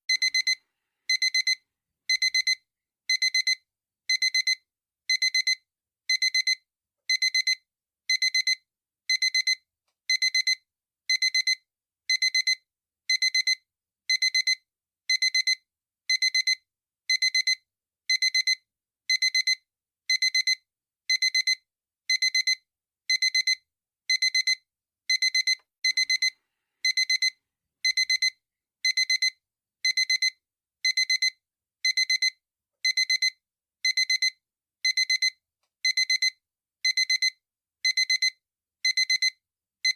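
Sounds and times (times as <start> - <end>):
alarm clock double beeps: 0.1 - 26.3, 26.9 - 30.3, 30.9 - 31.3, 31.9 - 39.9.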